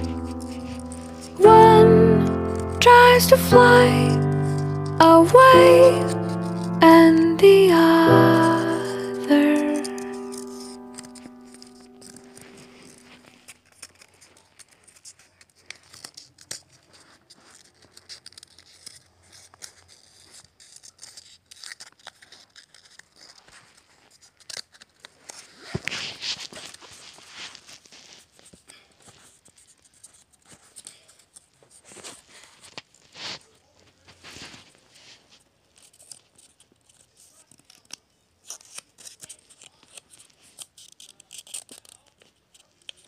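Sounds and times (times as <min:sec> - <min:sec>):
paper rustling and crinkling: 0:00.0 - 0:43.0.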